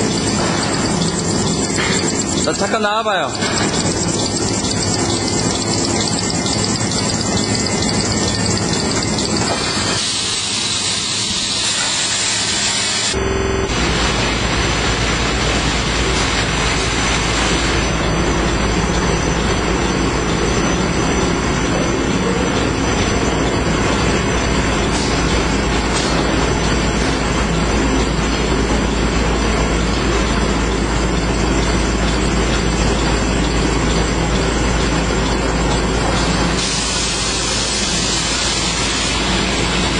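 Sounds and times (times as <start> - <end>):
paper machine mechanical din: 0.0 - 39.9.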